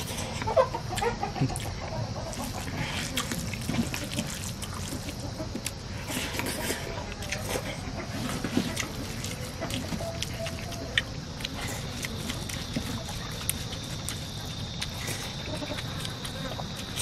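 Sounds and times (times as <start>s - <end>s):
rice mixed by hand squishing: 2.3s - 17.0s.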